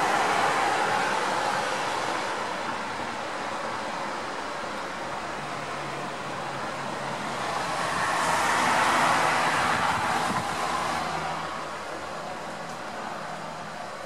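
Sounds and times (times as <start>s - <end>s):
traffic noise: 0.0s - 14.0s
tyre hiss on wet street: 0.0s - 14.0s.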